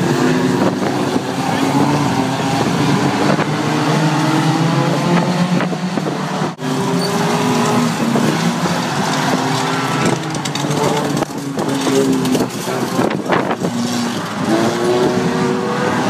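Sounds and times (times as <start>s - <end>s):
racing car engines revving: 0.0s - 16.0s
tyre and track noise: 0.0s - 16.0s.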